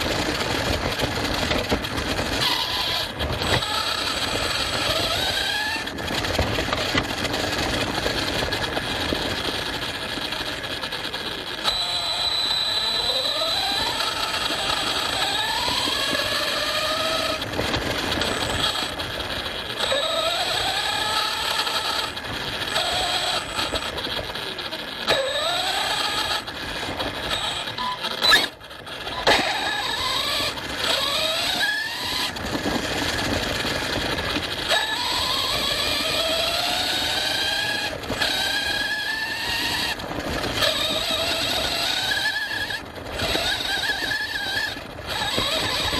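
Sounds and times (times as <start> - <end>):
rc car motor whining: 0.0 - 45.9
tyres rattling on rough ground: 0.0 - 45.9.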